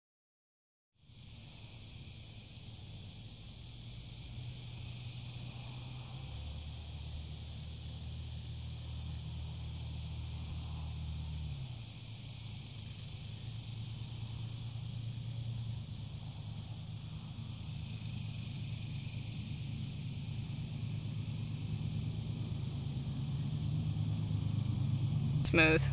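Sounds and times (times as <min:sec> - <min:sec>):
insects droning in trees: 0:01.0 - 0:25.9
low steady rumble: 0:01.1 - 0:25.9.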